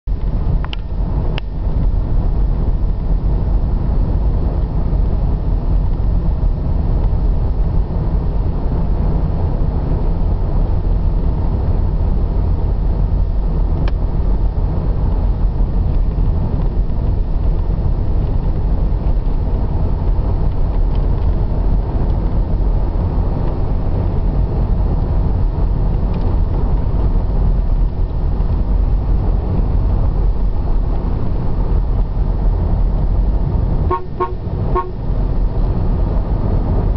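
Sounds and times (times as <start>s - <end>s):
engine and tyre rumble: 0.0s - 36.9s.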